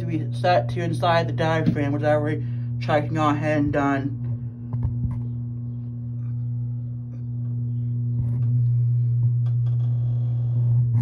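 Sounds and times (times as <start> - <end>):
electric pump motor humming: 0.0 - 11.0.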